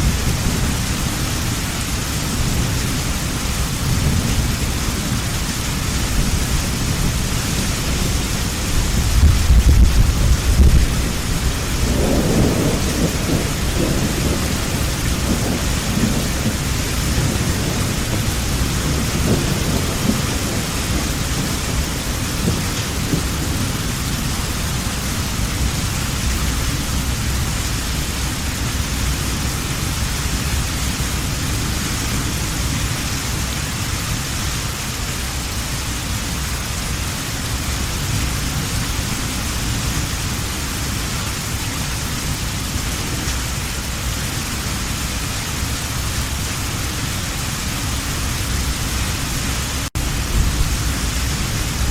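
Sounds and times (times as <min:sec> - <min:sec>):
thunder rumbling: 0:00.0 - 0:34.2, 0:36.5 - 0:51.9
heavy rain falling: 0:00.0 - 0:51.9.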